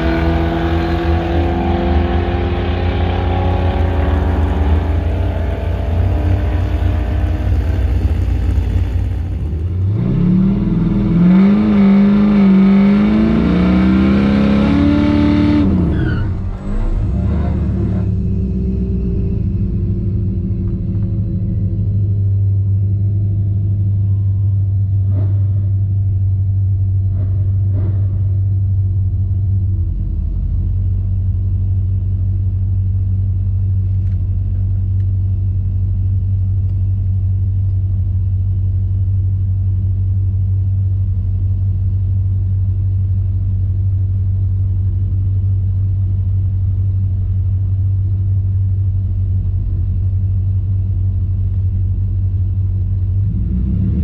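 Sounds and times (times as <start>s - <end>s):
engine running inside cab: 0.0s - 54.0s.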